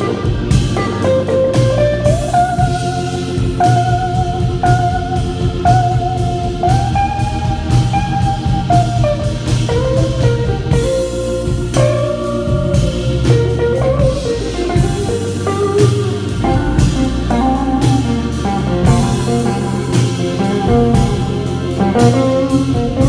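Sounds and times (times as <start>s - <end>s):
lead guitar line: 0.0s - 23.0s
live band playing: 0.0s - 23.0s.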